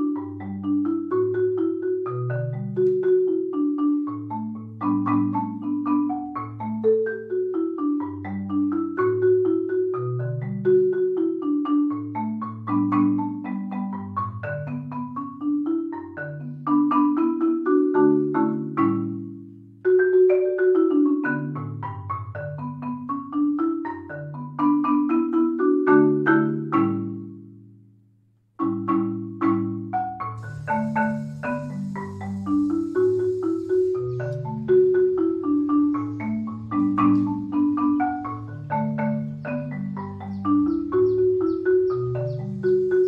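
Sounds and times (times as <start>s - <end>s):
marimba melody: 0.0s - 28.0s, 28.6s - 43.0s.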